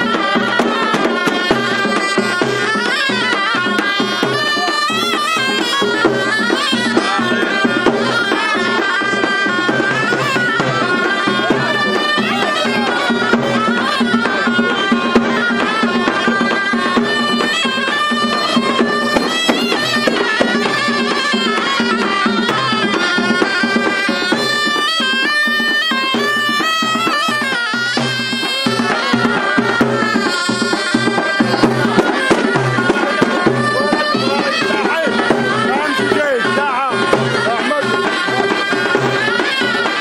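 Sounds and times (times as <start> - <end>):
reed wind instrument melody: 0.0 - 40.0
steady drum beat: 0.0 - 40.0.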